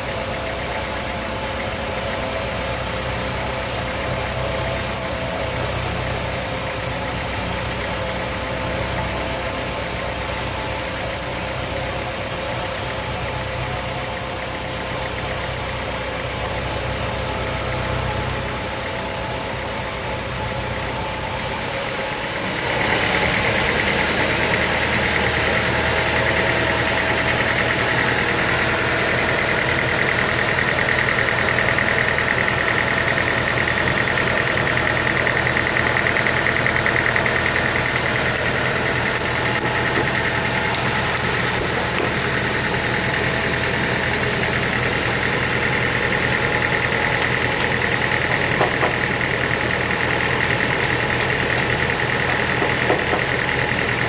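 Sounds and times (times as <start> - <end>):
motor hum: 0.0 - 21.7, 22.4 - 54.0
machinery high whine: 0.0 - 54.0.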